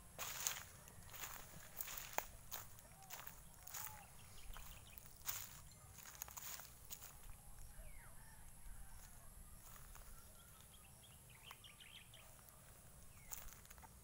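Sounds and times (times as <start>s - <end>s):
faint bird calls: 0.4s - 13.6s.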